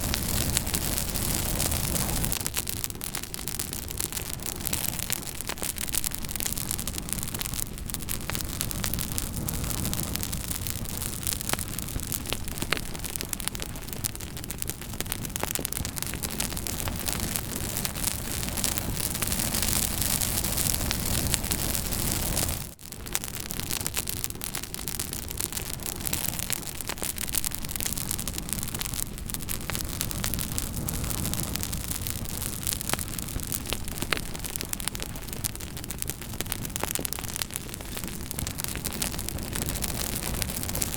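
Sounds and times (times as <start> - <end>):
campfire crackling and popping: 0.0 - 40.9
hiss of flames: 0.0 - 40.9.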